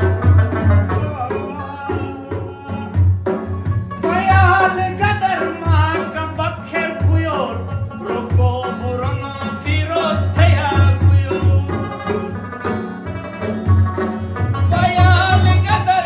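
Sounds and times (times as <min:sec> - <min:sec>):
man singing folk song: 0:00.0 - 0:13.6, 0:14.4 - 0:16.0
low hand-drum beat: 0:00.0 - 0:16.0
strummed acoustic guitar: 0:00.0 - 0:16.0.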